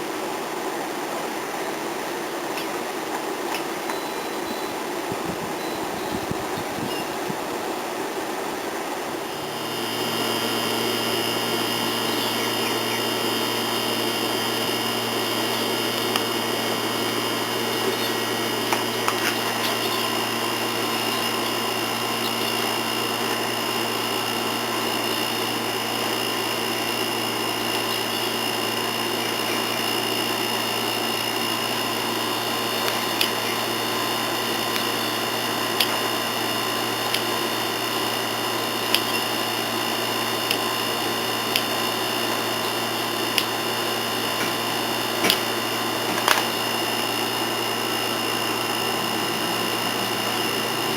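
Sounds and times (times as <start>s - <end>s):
electric power tool motor running: 3.8s - 50.9s.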